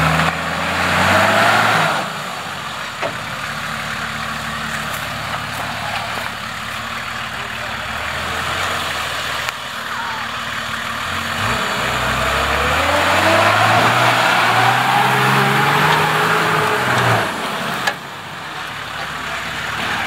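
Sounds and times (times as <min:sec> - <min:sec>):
engine revving hard: 0:00.0 - 0:02.8, 0:03.4 - 0:20.0.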